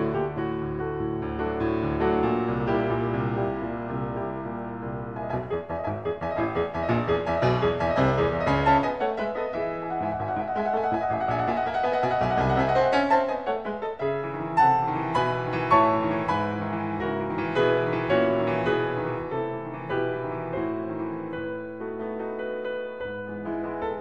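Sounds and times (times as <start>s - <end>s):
piano music with held chords: 0.0s - 24.0s.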